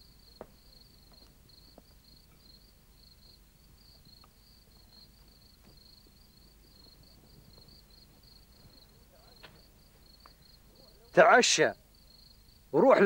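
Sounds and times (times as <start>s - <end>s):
campfire crackling: 0.0s - 13.0s
crickets chirping: 0.0s - 13.0s.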